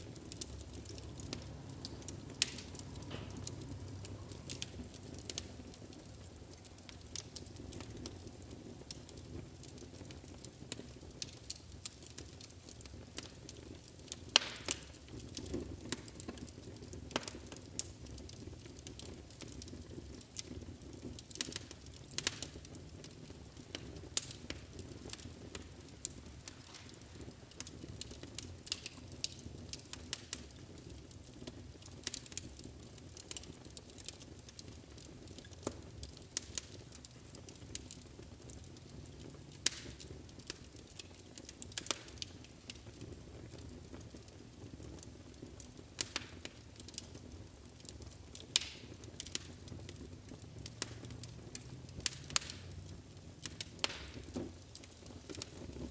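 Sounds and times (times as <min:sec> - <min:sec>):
sharp snaps of burning wood: 0:00.0 - 0:55.9
wood fire crackling and popping: 0:00.0 - 0:55.9.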